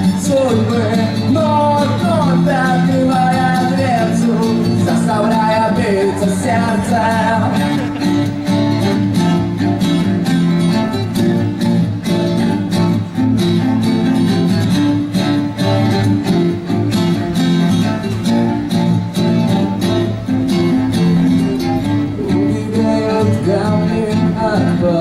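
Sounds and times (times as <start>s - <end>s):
instrumental rock band: 0.0s - 25.0s.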